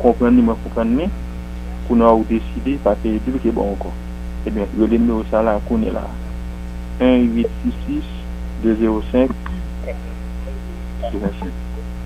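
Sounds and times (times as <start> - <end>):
man's voice: 0.0 - 1.1, 1.9 - 6.3, 7.0 - 11.6
electrical mains hum: 0.0 - 12.0.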